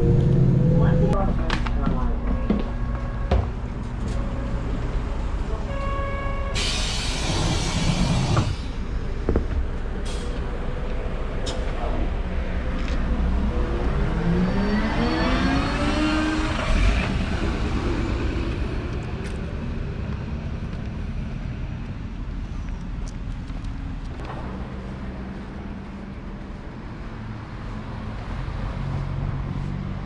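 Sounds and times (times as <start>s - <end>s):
bus engine accelerating: 0.0s - 5.7s, 6.3s - 30.0s
low rumble: 0.0s - 5.8s, 6.4s - 29.7s.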